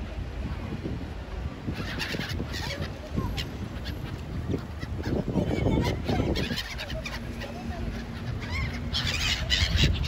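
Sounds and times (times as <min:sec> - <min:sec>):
gulls calling: 0:01.3 - 0:10.0.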